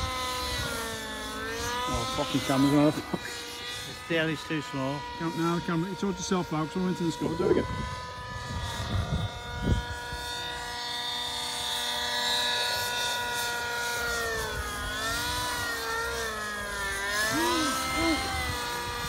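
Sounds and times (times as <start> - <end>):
model helicopter rotor whine: 0.0 - 19.0.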